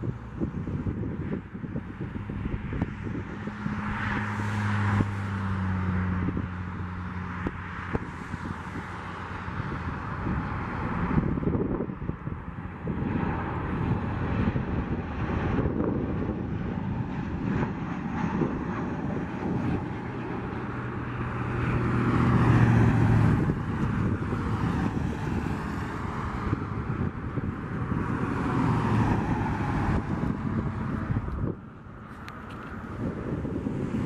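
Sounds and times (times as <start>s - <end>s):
jet engines on landing approach: 0.0s - 34.0s
wind buffeting microphone: 0.0s - 34.0s.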